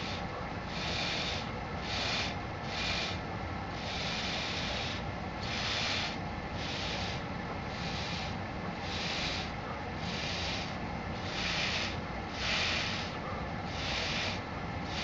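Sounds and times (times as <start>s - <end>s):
breath puffs blown into a tube: 0.0s - 3.2s, 3.8s - 15.0s.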